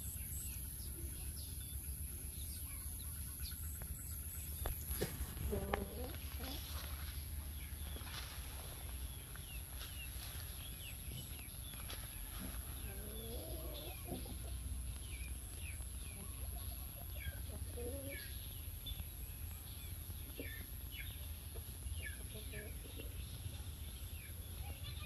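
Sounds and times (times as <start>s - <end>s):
lower clucking bird calls: 2.4s - 23.6s.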